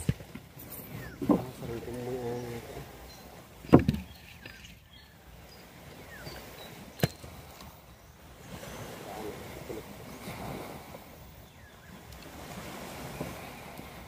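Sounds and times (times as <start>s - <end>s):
faint water: 0.0s - 14.0s.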